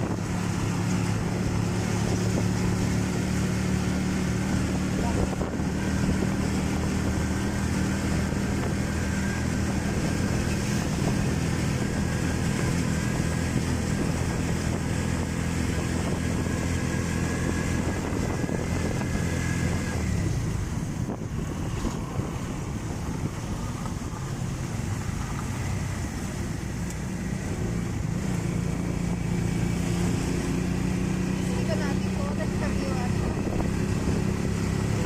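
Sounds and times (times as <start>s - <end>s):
vehicle engine running: 0.0s - 35.0s
rain and wet road hiss: 0.1s - 16.3s, 18.6s - 35.0s.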